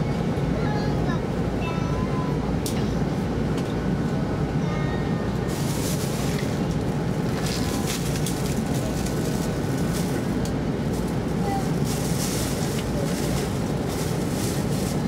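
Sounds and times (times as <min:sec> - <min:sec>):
low rumble of wheels on rail: 0:00.0 - 0:15.0.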